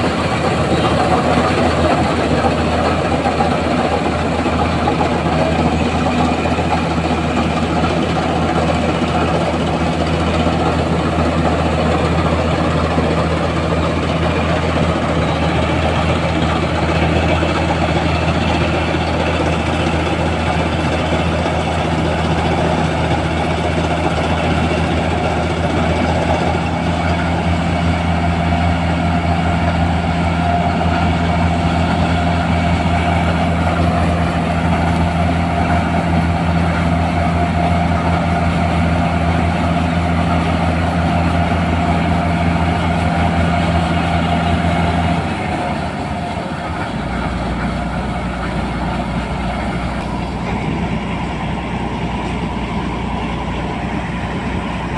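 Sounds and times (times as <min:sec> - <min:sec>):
diesel engine drone: 0:00.0 - 0:54.9.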